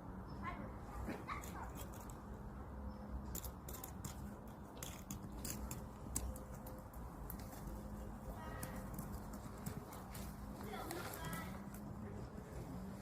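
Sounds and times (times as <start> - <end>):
birds cracking seed: 1.1 - 11.9.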